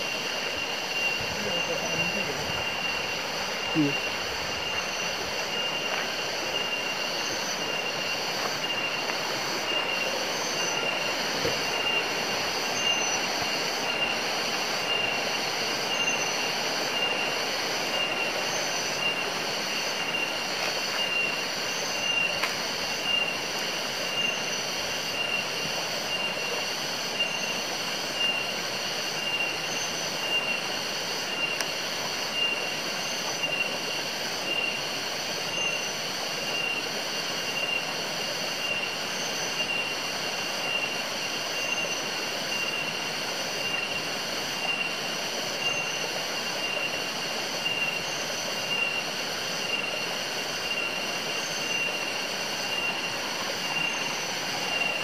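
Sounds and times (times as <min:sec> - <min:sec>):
forest insects chorus: 0:00.0 - 0:55.0
stream rushing: 0:00.0 - 0:55.0.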